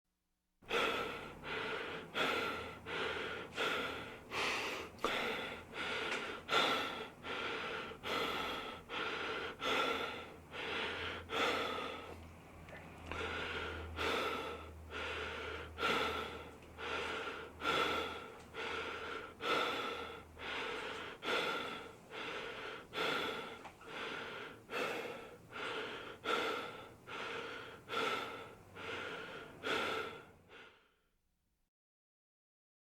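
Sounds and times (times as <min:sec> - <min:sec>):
person breathing heavily: 0:00.7 - 0:12.2, 0:13.0 - 0:31.0.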